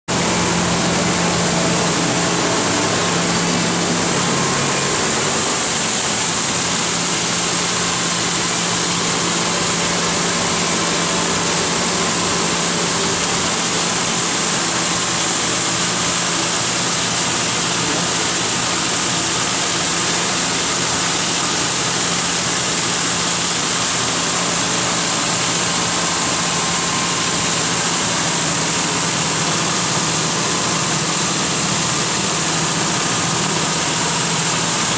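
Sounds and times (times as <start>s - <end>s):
grinder running: 0.1s - 34.9s.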